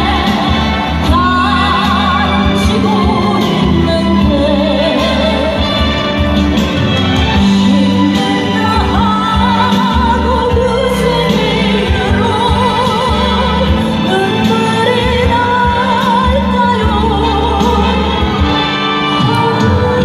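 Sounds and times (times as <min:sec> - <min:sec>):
backing track: 0:00.0 - 0:20.0
woman singing ballad with vibrato: 0:00.0 - 0:20.0.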